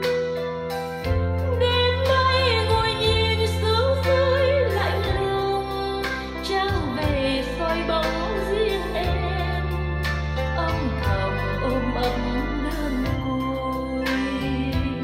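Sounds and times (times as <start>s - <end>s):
song over loudspeakers: 0.0s - 15.0s.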